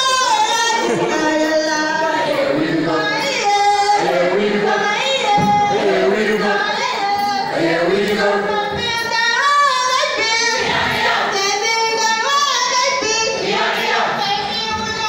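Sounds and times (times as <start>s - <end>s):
group of high voices singing: 0.0s - 15.0s.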